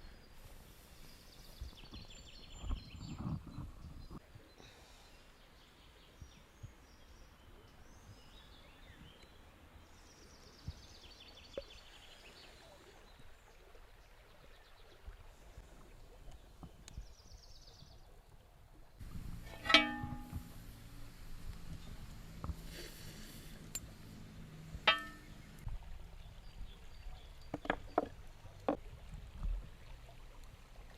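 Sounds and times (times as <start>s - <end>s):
faint birdsong: 0.0s - 29.0s
forest background noise: 0.0s - 30.9s.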